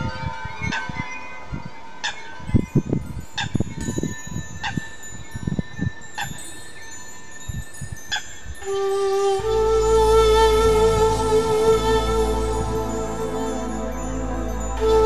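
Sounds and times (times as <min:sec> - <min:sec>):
wind chimes ringing: 0:00.0 - 0:10.0, 0:10.7 - 0:15.0.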